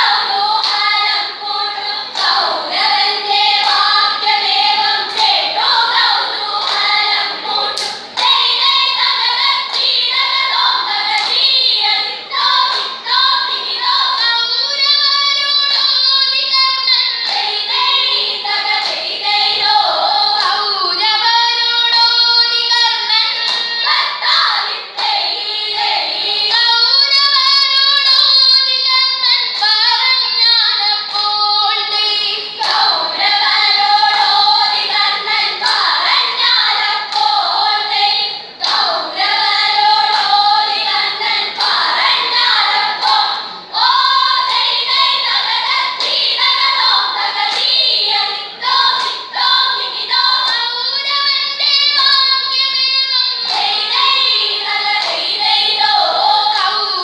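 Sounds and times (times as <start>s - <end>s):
girls singing in chorus: 0.0s - 57.0s.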